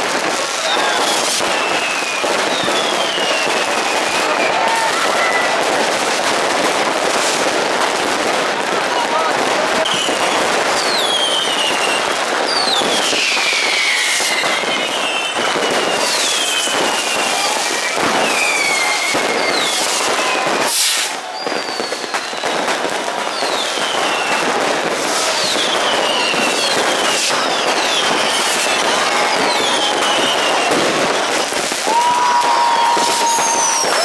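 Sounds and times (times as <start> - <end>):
falling whistles of fireworks: 0.0 - 34.0
fireworks crackling and banging: 0.0 - 34.0.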